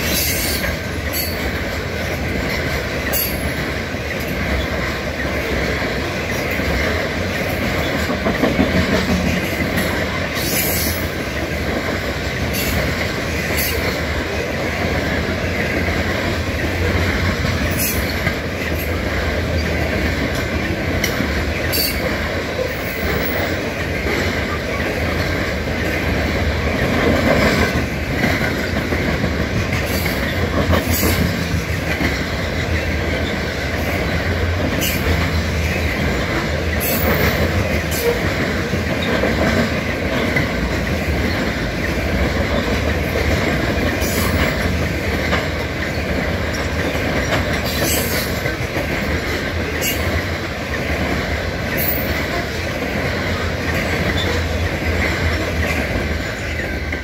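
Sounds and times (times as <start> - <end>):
steel wheels rumbling on rail: 0.0 - 57.0.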